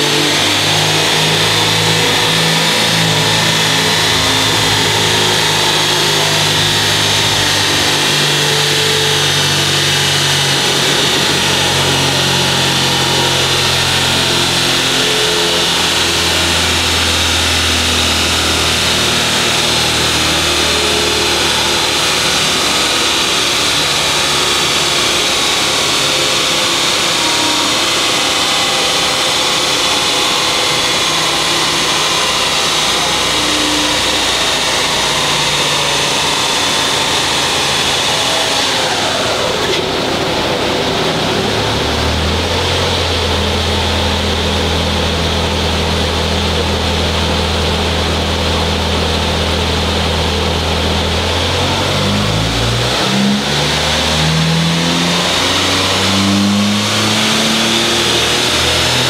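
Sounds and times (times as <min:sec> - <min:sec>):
car engine running under load: 0:00.0 - 0:59.0.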